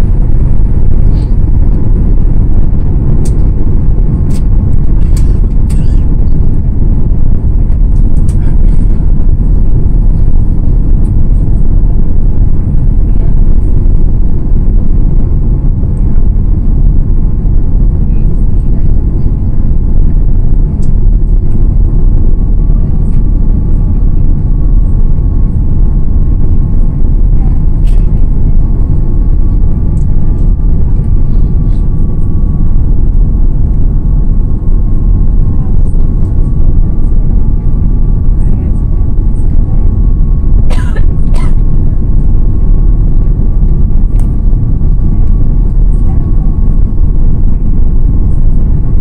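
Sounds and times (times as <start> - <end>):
faint high whine: 0.0 - 49.0
jet engines rumbling: 0.0 - 49.0
rushing air: 0.0 - 49.0.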